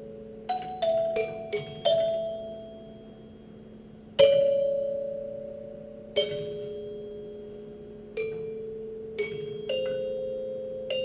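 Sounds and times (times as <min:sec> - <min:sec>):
glockenspiel two-note strikes: 0:00.0 - 0:03.3, 0:04.2 - 0:07.6, 0:08.2 - 0:11.0.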